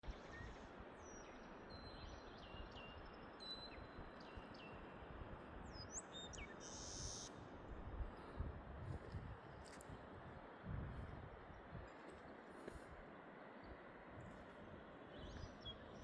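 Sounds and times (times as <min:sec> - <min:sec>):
low rushing background noise: 0:02.9 - 0:16.0.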